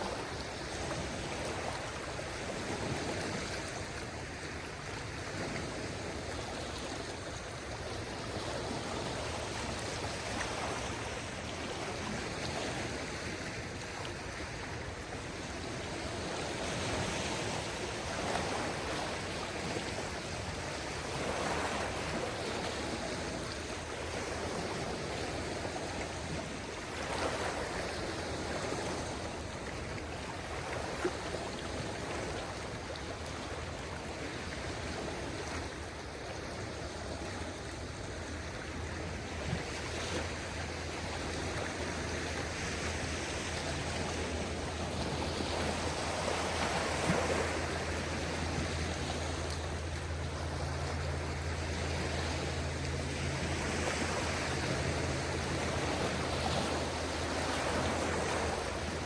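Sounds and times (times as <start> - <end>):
low steady hum: 0.0 - 59.0
small waves washing on beach: 0.0 - 59.0.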